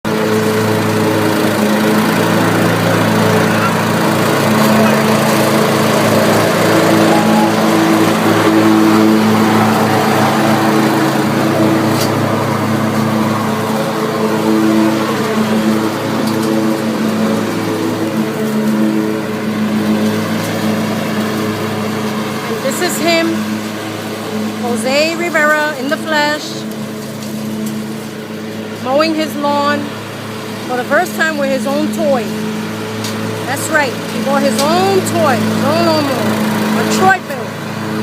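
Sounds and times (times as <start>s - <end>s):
riding mower engine running: 0.0s - 38.0s.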